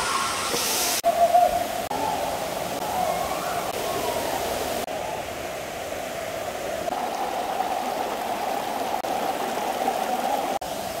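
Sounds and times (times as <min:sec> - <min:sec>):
water flowing over rocks: 0:00.0 - 0:11.0.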